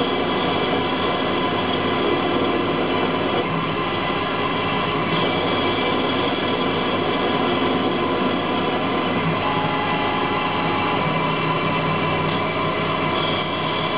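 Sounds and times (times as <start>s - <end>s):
lathe mechanical hum: 0.0s - 13.9s
spindle whining tones: 0.0s - 13.9s.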